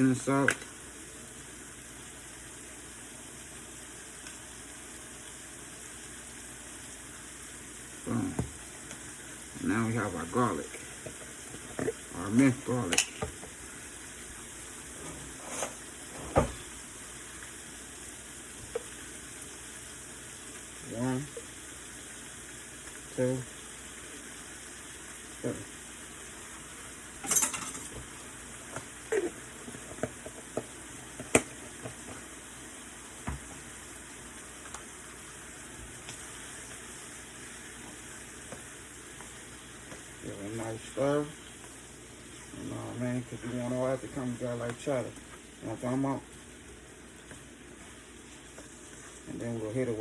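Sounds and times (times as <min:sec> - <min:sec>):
food sizzling in a pan: 0:00.0 - 0:50.0.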